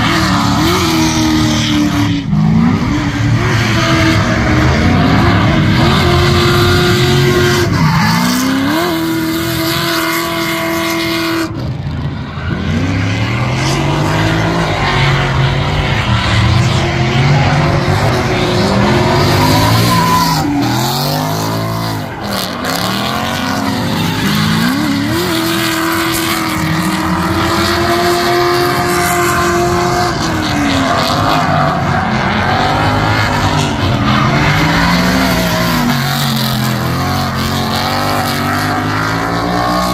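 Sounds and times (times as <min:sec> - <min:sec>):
drift car engines revving: 0:00.0 - 0:39.9
tire squeal and skidding: 0:00.0 - 0:39.9.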